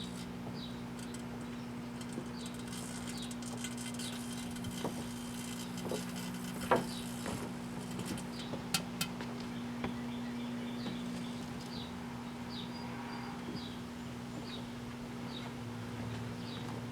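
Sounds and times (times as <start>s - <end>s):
microwave oven humming: 0.0s - 16.9s.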